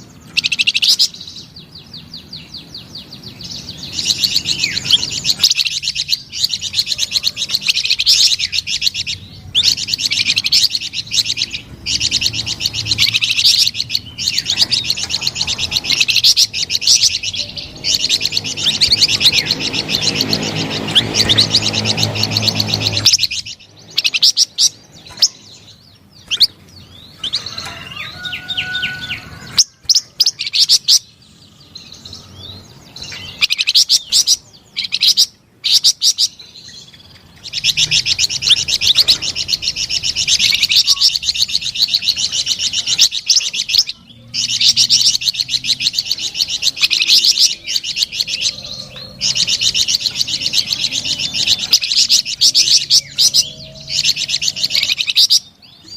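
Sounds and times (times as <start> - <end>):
songbird chirping and trilling: 0.0 - 55.9.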